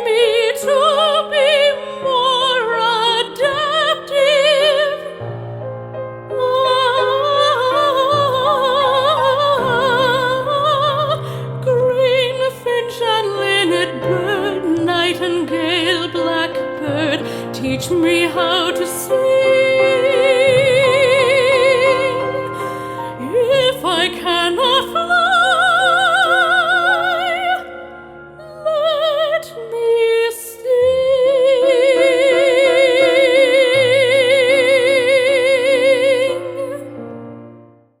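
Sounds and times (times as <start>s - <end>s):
woman singing operatically: 0.0s - 5.3s, 6.3s - 37.0s.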